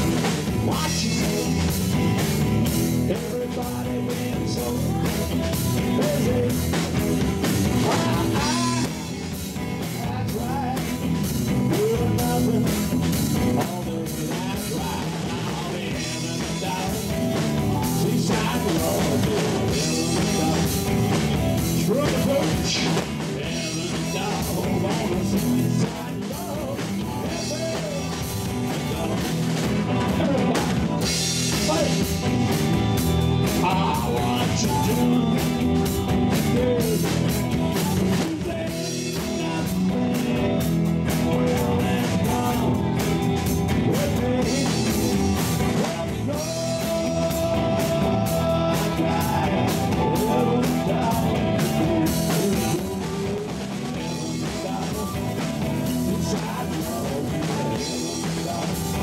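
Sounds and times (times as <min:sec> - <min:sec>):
drum kit: 0:00.0 - 0:59.0
electric bass: 0:00.0 - 0:59.0
electric guitar: 0:00.0 - 0:59.0.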